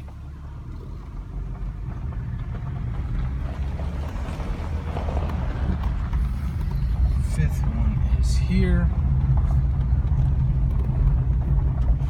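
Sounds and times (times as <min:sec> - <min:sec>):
vehicle rumbling on the move: 0:00.0 - 0:12.0.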